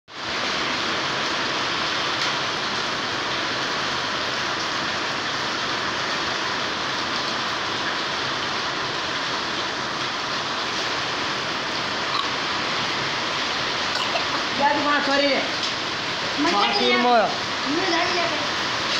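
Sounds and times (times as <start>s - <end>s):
heavy rain splashing: 0.1s - 18.9s.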